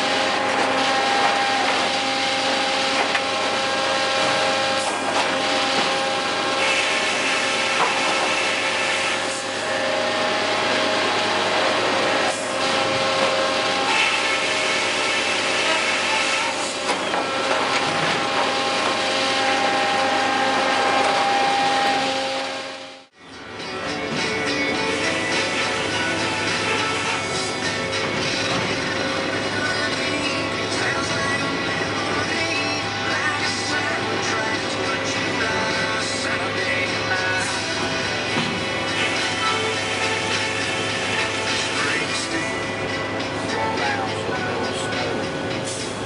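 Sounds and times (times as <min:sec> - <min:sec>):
sawmill circular saws running: 0:00.0 - 0:46.0.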